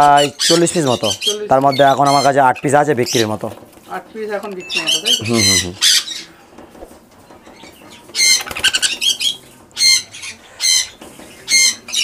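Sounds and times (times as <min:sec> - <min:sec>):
parrots squawking: 0:00.0 - 0:06.5, 0:07.4 - 0:12.0.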